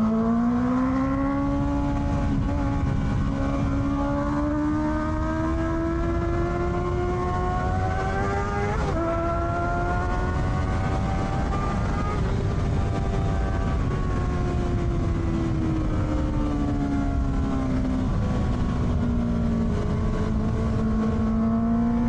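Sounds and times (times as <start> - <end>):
motorcycle engine accelerating: 0.0 - 22.0
wind and road noise: 0.0 - 22.0.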